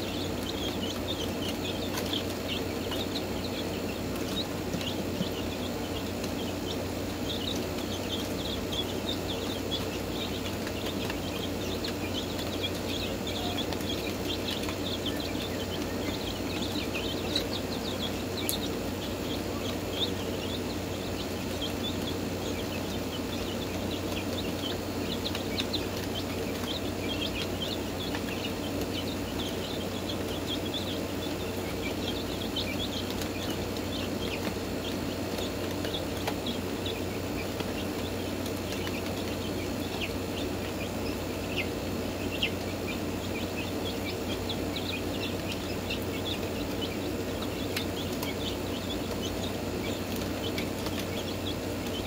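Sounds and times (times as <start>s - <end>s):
chickens chirping: 0.0s - 52.0s.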